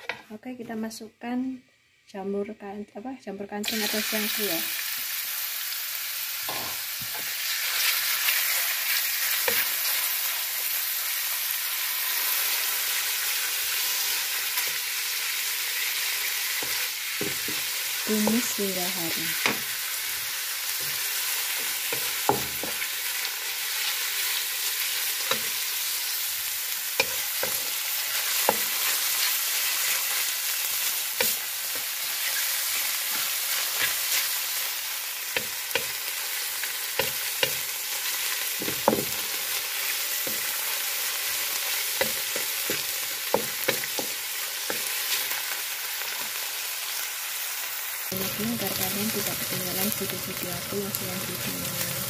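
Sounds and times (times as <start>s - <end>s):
mushrooms sizzling in hot oil: 3.6s - 52.0s.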